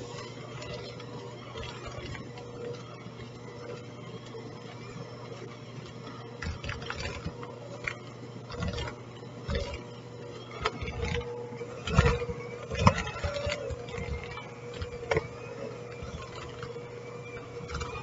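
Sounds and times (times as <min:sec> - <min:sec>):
electric hand mixer motor hum: 0:00.0 - 0:18.0.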